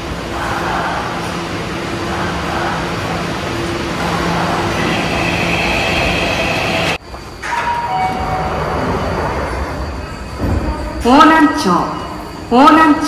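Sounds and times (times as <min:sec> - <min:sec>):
high whine: 0:00.0 - 0:13.0
train electrical hum: 0:00.0 - 0:13.0.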